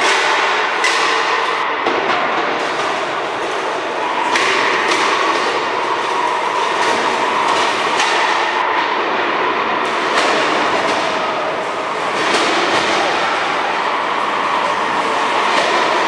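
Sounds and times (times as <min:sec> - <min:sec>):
whine of spinning motors: 0:03.1 - 0:16.0.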